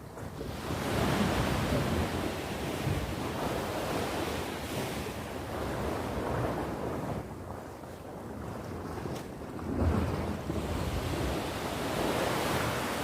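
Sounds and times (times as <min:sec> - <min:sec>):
sea waves breaking on shore: 0:00.0 - 0:13.0
wind rumbling on microphone: 0:00.0 - 0:13.0.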